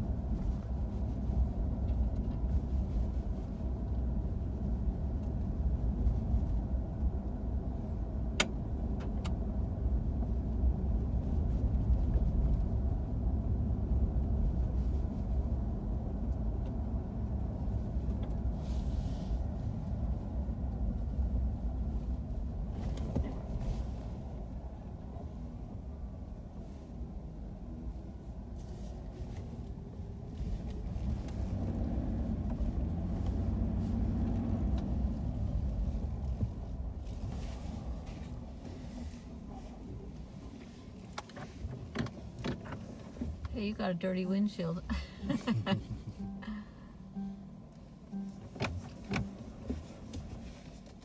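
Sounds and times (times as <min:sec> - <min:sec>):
vehicle road and engine rumble: 0:00.0 - 0:51.0.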